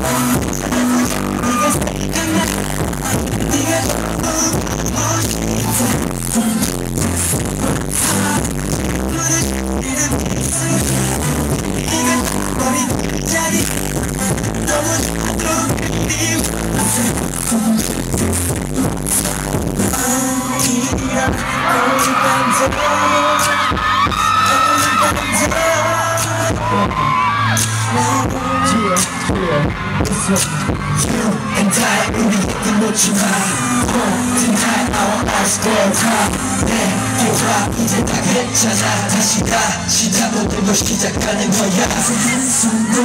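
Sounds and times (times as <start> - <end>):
loud pop backing track: 0.0 - 43.0
male group singing live: 0.0 - 43.0.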